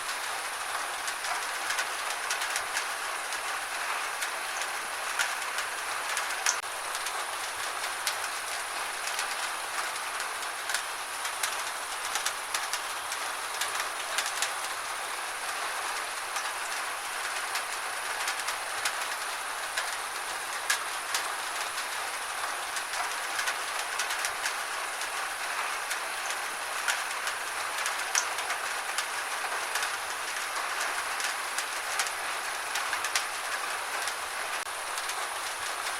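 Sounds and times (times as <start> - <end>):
gentle rain: 0.0 - 35.9
raindrops ticking on a surface: 0.0 - 35.9.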